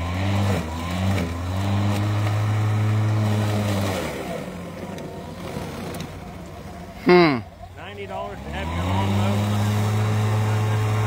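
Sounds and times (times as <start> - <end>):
electric lawn mower humming: 0.0 - 11.0
weak rough mower sound: 0.0 - 11.0.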